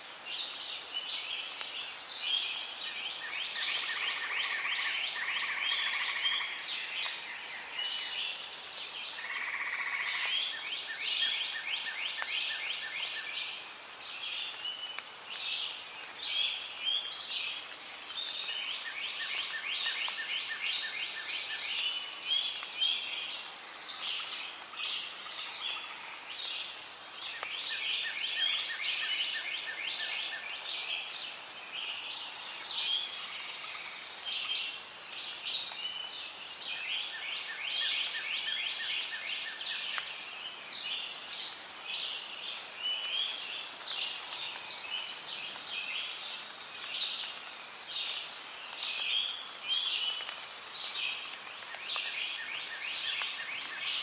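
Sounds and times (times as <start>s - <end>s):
birds and insects chirping: 0.0s - 54.0s.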